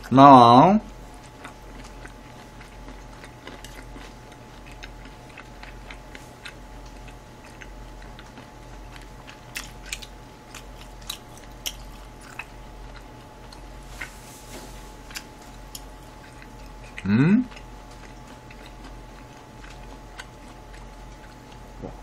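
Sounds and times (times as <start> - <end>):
low electrical hum: 0.0 - 22.0
person chewing: 0.9 - 22.0.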